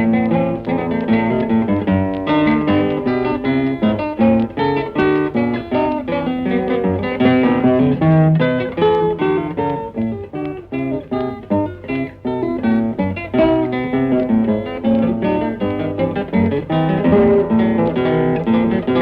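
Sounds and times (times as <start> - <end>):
plucked acoustic guitar notes: 0.0 - 19.0.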